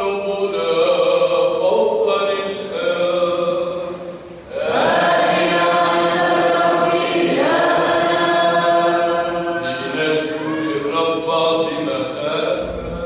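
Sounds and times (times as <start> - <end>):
choir chanting a hymn: 0.0 - 13.0.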